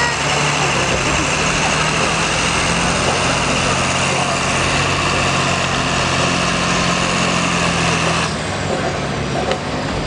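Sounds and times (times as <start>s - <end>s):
tractor engine under heavy load: 0.0s - 10.0s.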